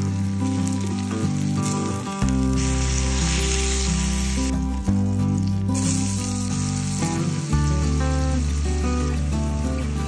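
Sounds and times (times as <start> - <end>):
oil sizzling in a skillet: 0.0 - 10.0.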